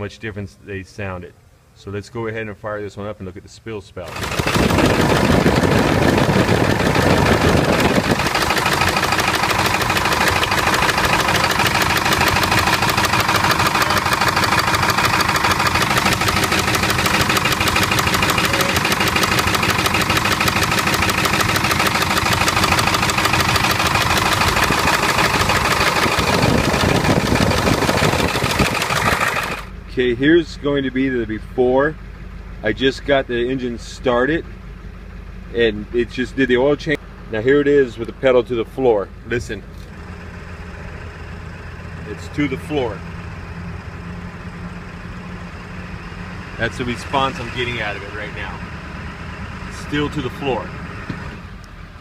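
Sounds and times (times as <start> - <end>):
diesel engine clattering: 4.0 - 52.0.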